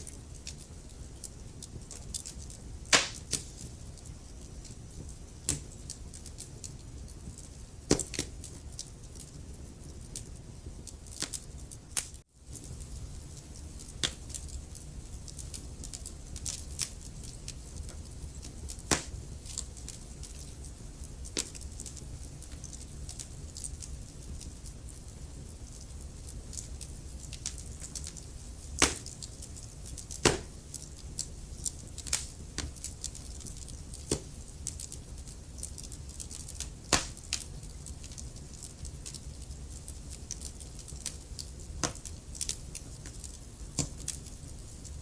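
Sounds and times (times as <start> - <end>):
wood fire crackling in fireplace: 0.0 - 45.0.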